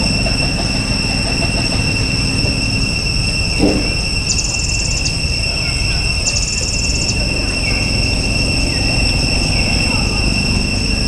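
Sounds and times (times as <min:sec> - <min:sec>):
fast ticking trill: 0:00.0 - 0:11.0
insect drone: 0:00.0 - 0:11.0
low engine rumble: 0:00.0 - 0:11.0.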